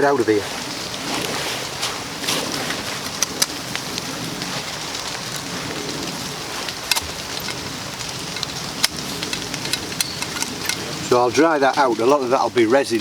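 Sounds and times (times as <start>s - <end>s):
raindrops tapping close by: 0.0s - 13.0s
steady rain falling: 0.0s - 13.0s.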